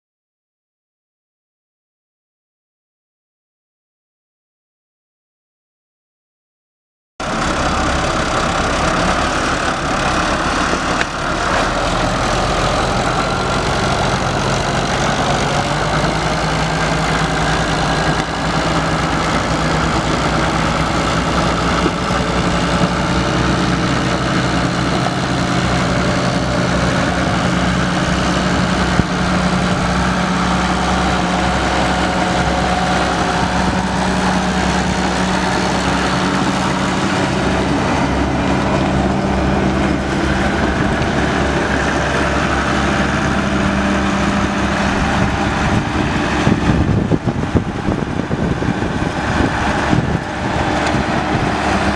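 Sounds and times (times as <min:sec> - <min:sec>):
diesel tractor engine idling: 0:07.2 - 0:51.9.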